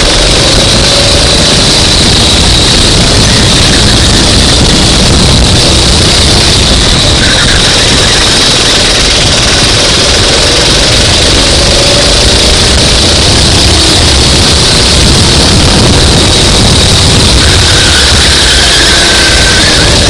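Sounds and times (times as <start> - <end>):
go-kart engine racing: 0.0 - 20.0.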